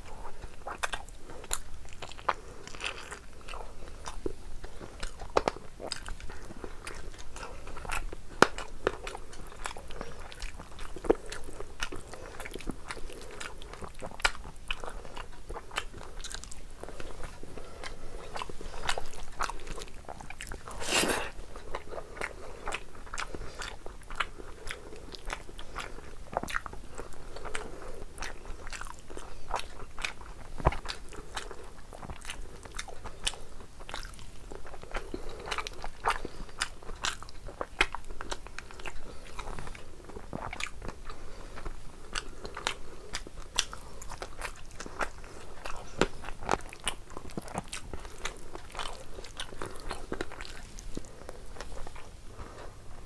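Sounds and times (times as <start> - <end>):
person chewing wetly: 0.0 - 53.0.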